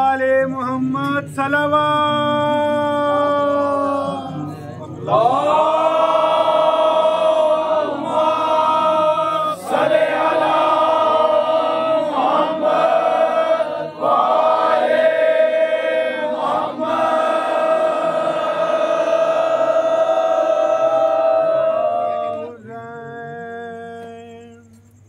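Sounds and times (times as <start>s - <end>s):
group chanting a lament: 0.0s - 24.6s.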